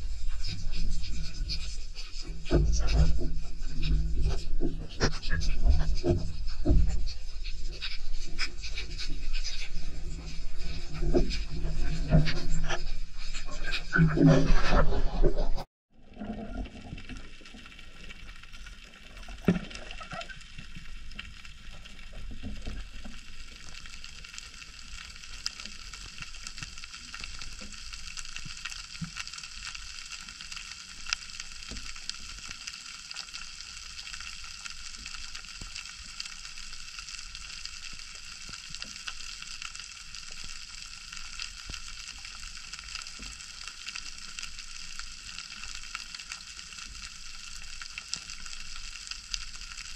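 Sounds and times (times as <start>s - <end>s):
underwater crackle: 0.0s - 49.9s.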